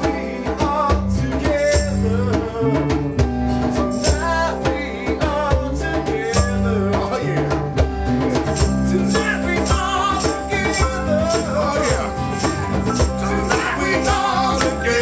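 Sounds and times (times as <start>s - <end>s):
person singing: 0.0s - 3.1s, 4.0s - 15.0s
band playing: 0.0s - 15.0s.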